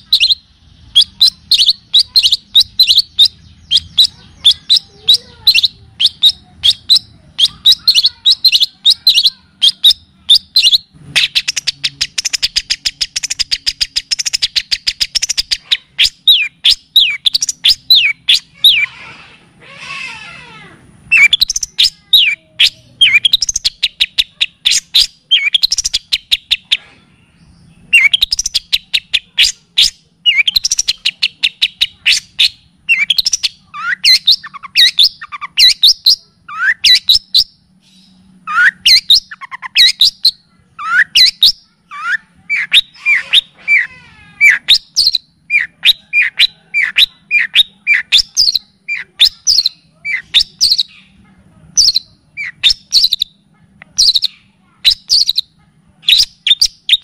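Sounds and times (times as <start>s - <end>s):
songbird chirping and trilling: 0.0s - 57.0s.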